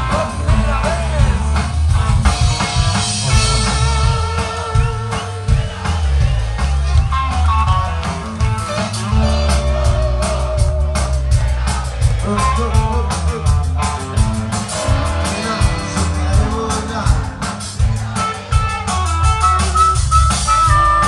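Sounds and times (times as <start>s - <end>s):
bass guitar: 0.0s - 21.0s
distorted electric guitars: 0.0s - 21.0s
drum kit with cymbals: 0.0s - 21.0s.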